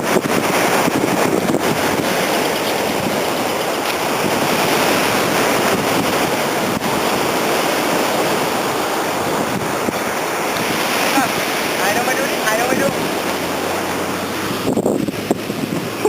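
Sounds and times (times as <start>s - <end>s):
sea surf: 0.0s - 16.0s
strong wind: 0.0s - 16.0s.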